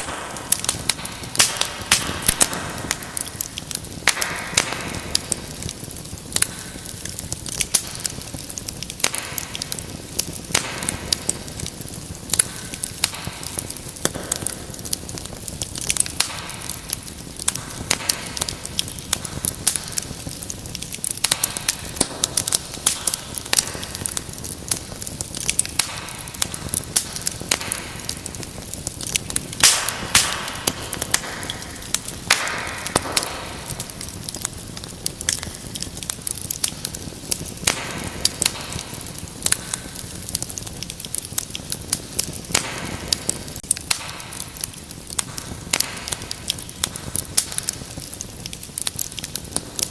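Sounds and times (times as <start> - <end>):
low hiss of burning: 0.0 - 49.9
wood fire crackling and popping: 0.0 - 49.9.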